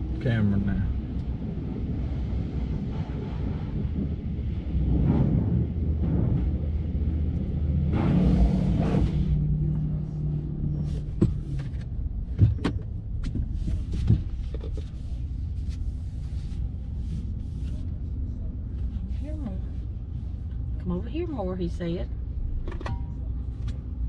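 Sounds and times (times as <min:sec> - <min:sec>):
car idling rumble: 0:00.0 - 0:24.0.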